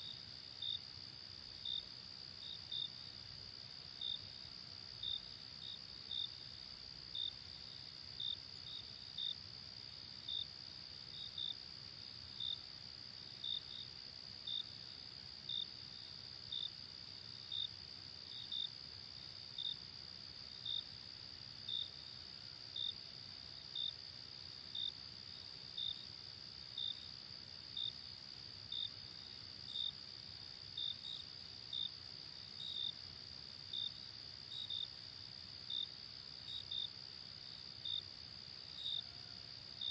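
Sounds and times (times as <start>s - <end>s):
louder cricket chirping: 0.0s - 39.9s.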